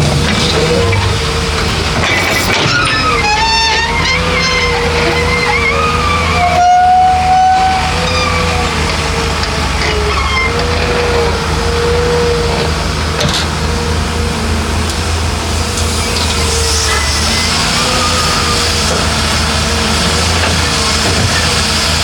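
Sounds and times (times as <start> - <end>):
heavy diesel machinery drone: 0.0 - 22.0.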